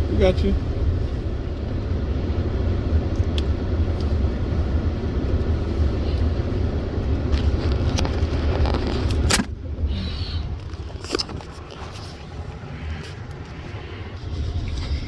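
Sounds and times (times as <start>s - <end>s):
car rumble from inside: 0.0s - 15.0s.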